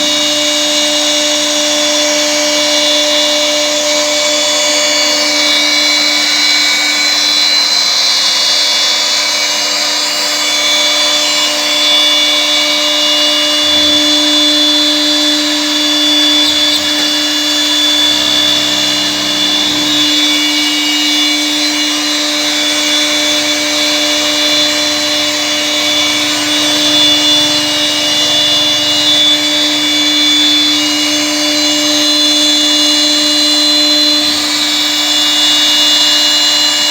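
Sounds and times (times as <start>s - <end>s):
router spindle whining: 0.0s - 36.9s.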